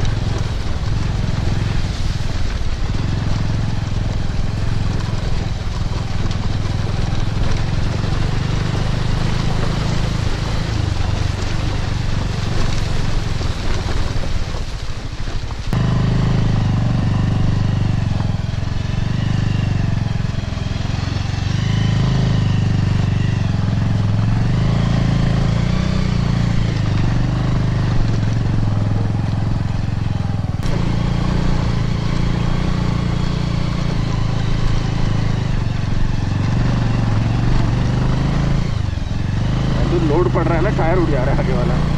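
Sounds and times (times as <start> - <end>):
motorcycle engine revving: 0.0 - 14.4, 15.3 - 41.9.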